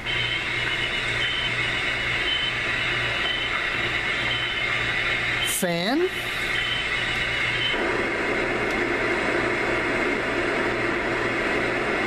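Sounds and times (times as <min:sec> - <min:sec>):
fan sound rushing noise: 0:00.0 - 0:12.0.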